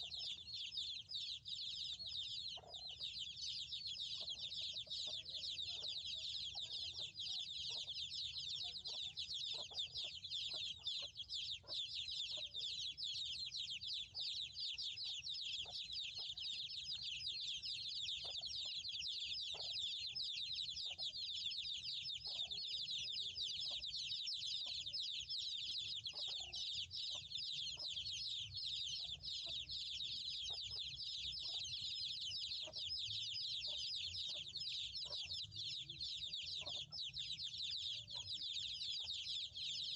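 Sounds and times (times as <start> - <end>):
chickens clucking: 0.0 - 39.9
chicks cheeping: 0.0 - 39.9.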